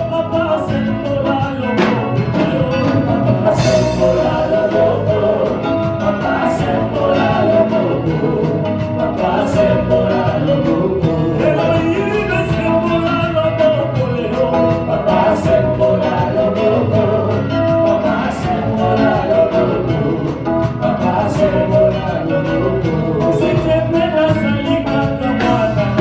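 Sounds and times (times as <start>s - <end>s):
drums: 0.0s - 26.0s
gospel band playing: 0.0s - 26.0s
people singing: 0.0s - 26.0s.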